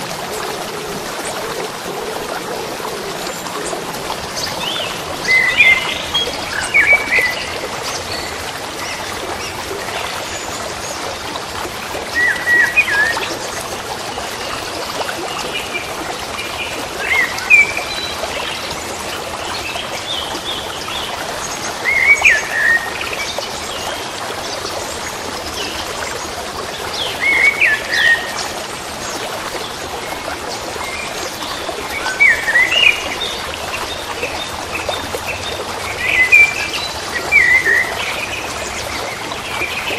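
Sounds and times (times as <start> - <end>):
running water: 0.0 - 39.9
birds singing: 2.0 - 11.0, 15.4 - 26.1, 26.8 - 39.9.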